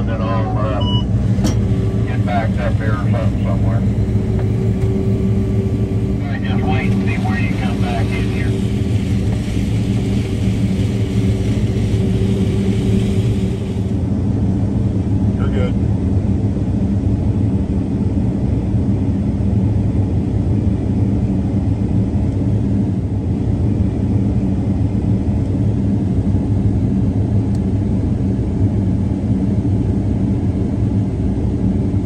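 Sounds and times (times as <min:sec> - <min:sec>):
combine harvester running: 0:00.0 - 0:32.0.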